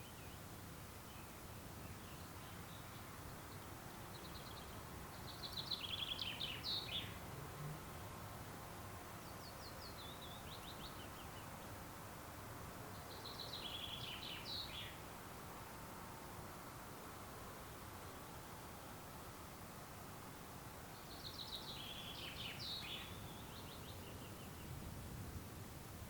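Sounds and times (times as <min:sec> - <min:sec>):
faint outdoor hiss: 0:00.0 - 0:26.0
songbird singing: 0:00.0 - 0:26.0.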